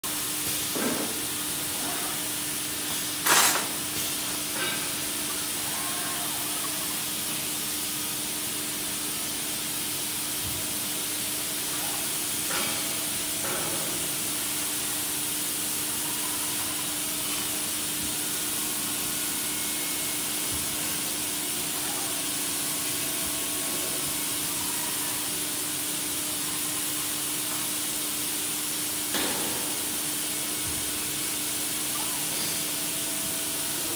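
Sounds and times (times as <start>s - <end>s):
steady hiss: 0.1s - 33.9s.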